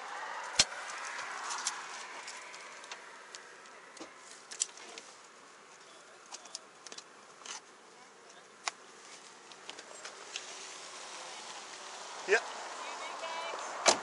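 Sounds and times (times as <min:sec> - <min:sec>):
steady hiss: 0:02.6 - 0:13.9.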